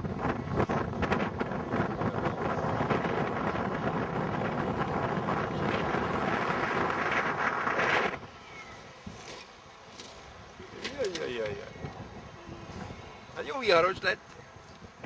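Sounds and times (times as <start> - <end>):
wind buffeting microphone: 0.0 - 9.4, 10.1 - 15.0.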